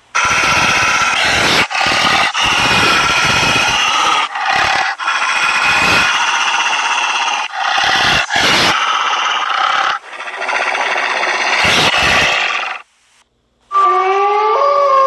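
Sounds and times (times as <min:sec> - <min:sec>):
wolves howling: 0:00.2 - 0:12.7, 0:13.7 - 0:15.0.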